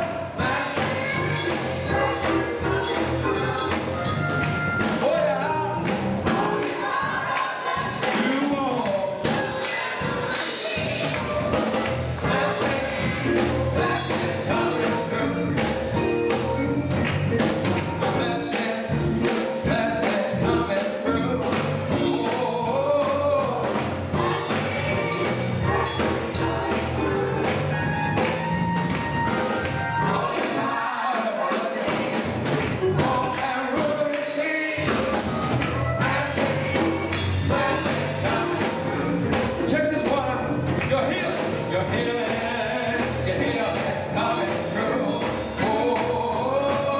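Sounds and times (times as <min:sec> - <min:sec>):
gospel choir singing with band: 0:00.0 - 0:46.9
tambourine shaking: 0:00.0 - 0:46.9.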